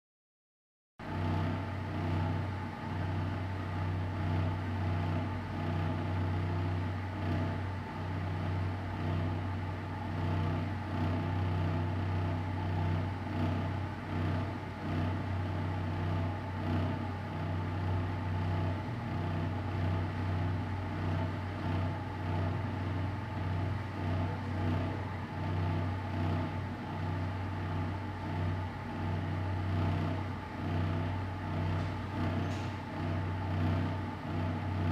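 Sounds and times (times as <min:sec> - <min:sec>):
faint constant tones: 0:01.1 - 0:34.9.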